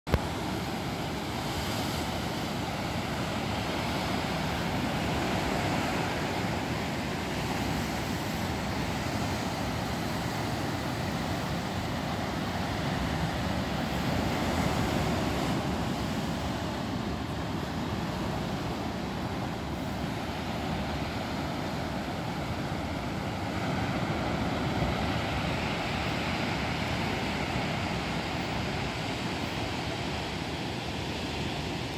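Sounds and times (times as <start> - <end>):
ocean surf breaking on rocks: 0.1 - 31.9.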